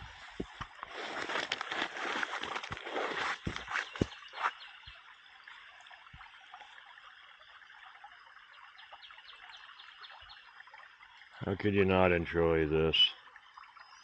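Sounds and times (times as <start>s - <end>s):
creek flowing over rocks: 0.0s - 14.0s.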